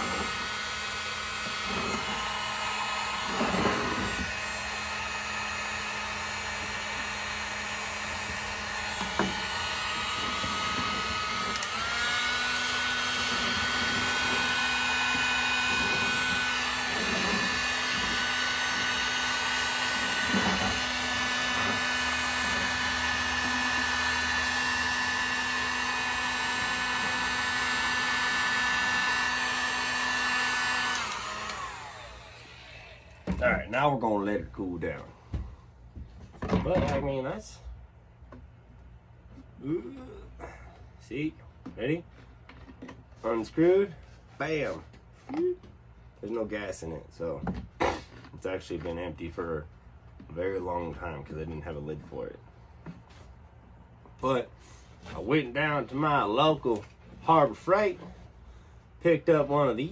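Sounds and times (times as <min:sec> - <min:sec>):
heat gun fan whining: 0:00.0 - 0:59.9.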